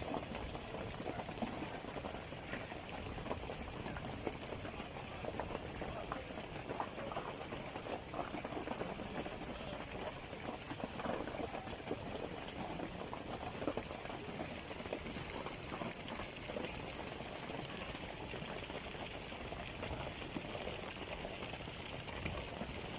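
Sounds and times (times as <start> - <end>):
rain pattering on street: 0.0 - 22.9.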